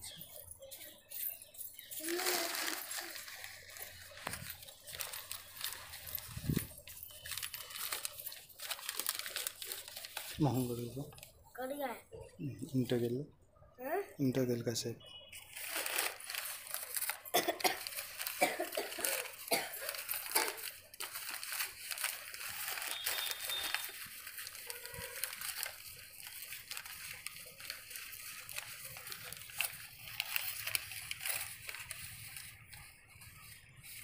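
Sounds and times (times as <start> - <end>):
paper rustling and crinkling: 0.1 - 11.4, 15.4 - 34.0.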